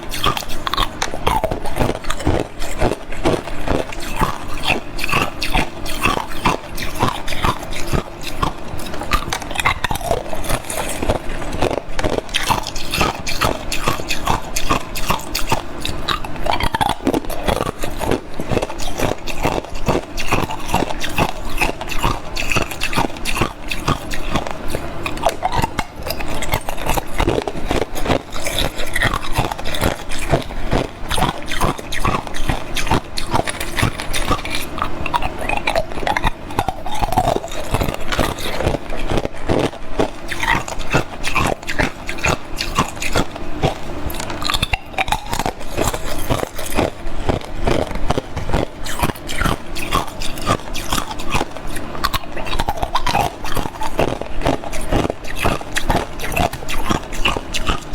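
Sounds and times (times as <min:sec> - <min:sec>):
ice cubes crunching: 0:00.0 - 0:57.9.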